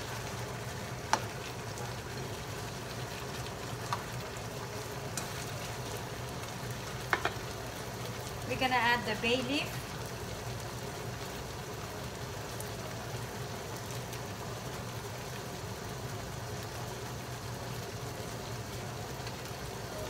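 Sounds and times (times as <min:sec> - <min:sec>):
chicken sizzling in a frying pan: 0:00.0 - 0:20.0.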